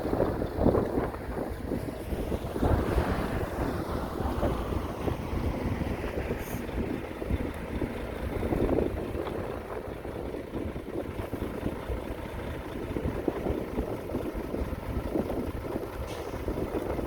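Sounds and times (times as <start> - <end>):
heavy machinery diesel engine rumble: 0.0 - 17.0.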